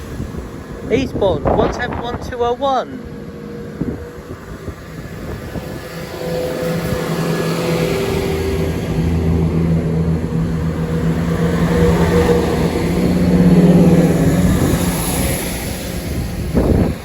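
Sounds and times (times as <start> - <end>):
train diesel engines running: 0.0 - 17.0.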